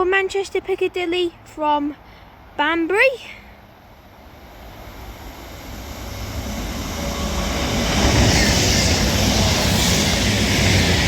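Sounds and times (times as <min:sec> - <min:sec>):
diesel train passing: 0:02.0 - 0:11.0.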